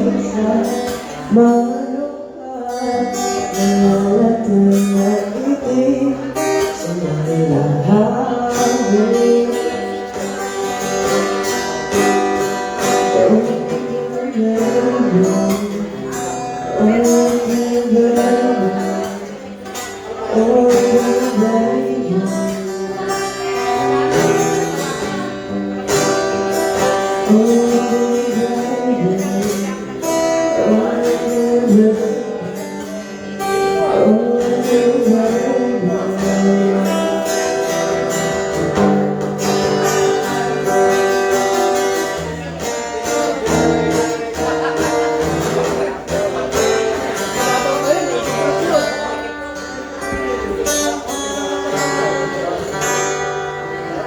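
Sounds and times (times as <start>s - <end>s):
guitar music: 0.0s - 54.0s.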